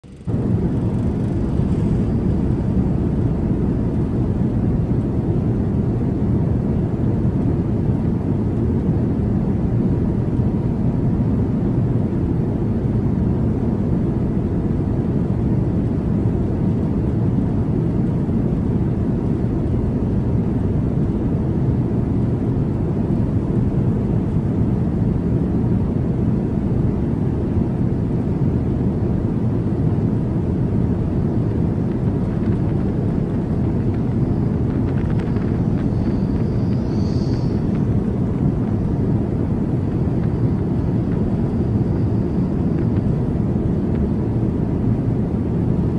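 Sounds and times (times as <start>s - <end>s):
low rumble of aircraft machinery: 0.0s - 45.9s.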